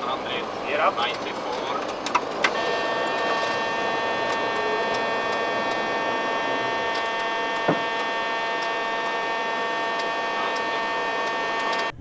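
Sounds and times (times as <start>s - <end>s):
airflow and engine noise: 0.0s - 12.0s
multi-tone whine: 0.0s - 12.0s.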